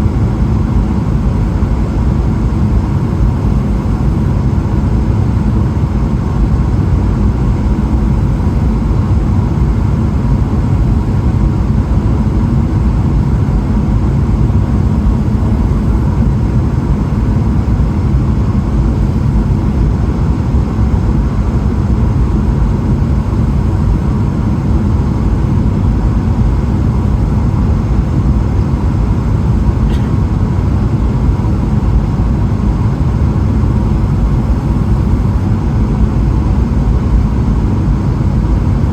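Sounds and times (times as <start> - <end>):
airplane cabin engine rush: 0.0 - 38.9.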